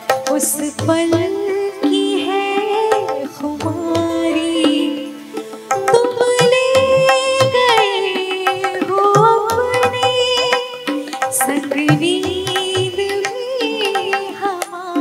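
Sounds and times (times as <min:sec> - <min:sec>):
harmonium: 0:00.0 - 0:15.0
keyboard: 0:00.0 - 0:15.0
tabla-style percussion: 0:00.0 - 0:15.0
woman singing: 0:00.0 - 0:15.0.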